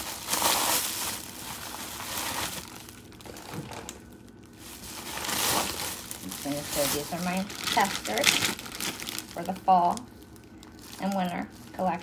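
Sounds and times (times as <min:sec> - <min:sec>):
foil packaging bag crinkling: 0:00.0 - 0:12.0.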